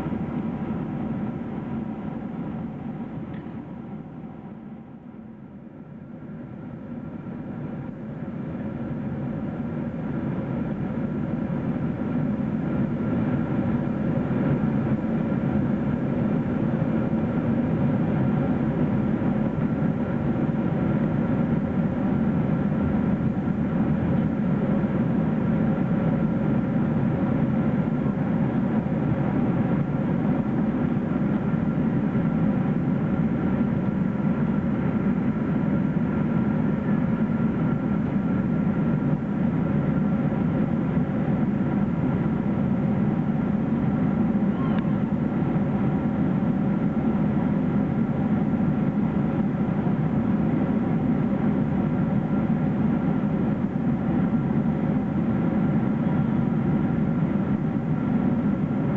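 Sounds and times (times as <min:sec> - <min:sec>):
jet engines droning: 0:00.0 - 0:58.9.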